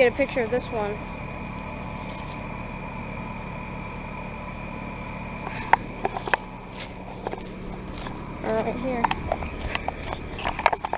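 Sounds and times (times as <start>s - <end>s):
heat pump humming: 0.0s - 10.9s
high whine: 0.0s - 10.9s.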